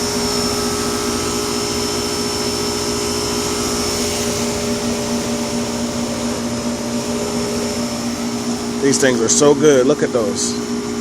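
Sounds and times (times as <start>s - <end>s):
machine hum and whir: 0.0s - 11.0s.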